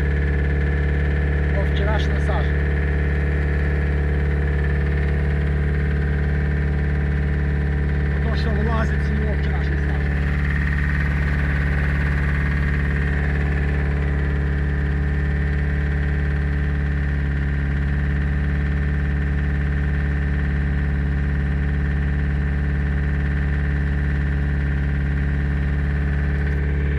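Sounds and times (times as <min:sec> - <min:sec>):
van engine idling: 0:00.0 - 0:26.9.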